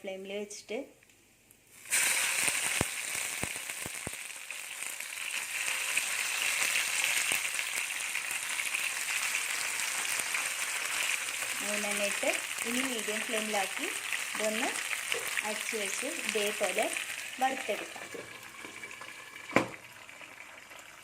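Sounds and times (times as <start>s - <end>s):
fish sizzling in hot oil: 1.7s - 21.0s.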